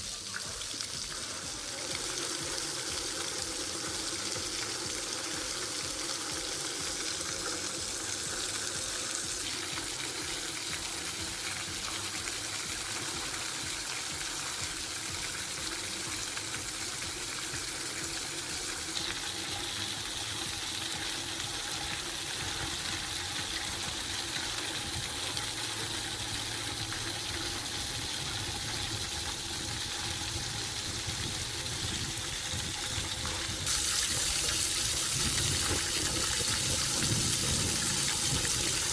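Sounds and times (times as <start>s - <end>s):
water jets spraying: 0.0s - 38.9s.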